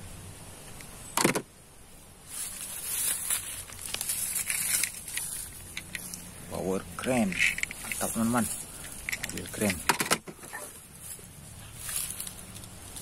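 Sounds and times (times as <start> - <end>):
dry leaves rustling: 1.9 - 13.0.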